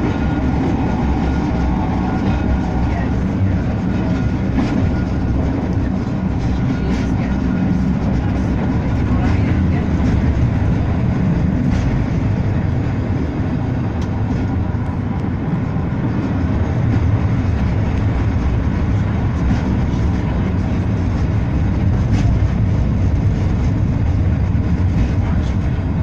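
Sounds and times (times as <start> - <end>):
tram motors and wheels rumbling: 0.0 - 26.0.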